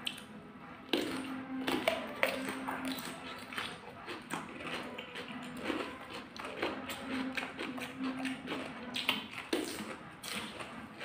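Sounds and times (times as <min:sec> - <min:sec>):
people chewing cucumber: 0:00.0 - 0:11.0
wet mouth sounds: 0:00.0 - 0:11.0.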